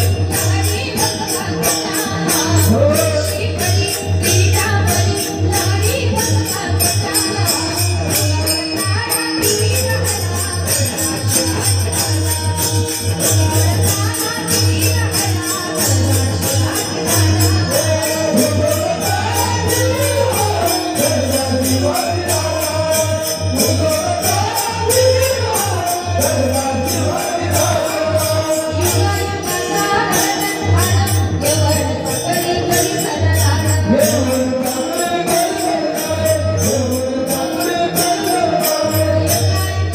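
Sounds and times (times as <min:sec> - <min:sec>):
jingling percussion: 0:00.0 - 0:39.9.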